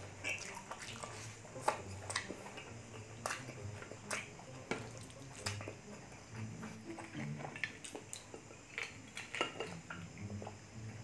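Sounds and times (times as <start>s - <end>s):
wet chewing and lip smacking: 0.0s - 10.7s.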